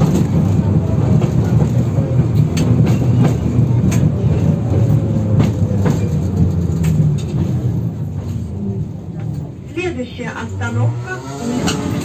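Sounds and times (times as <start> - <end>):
tram low rumble: 0.0 - 12.0.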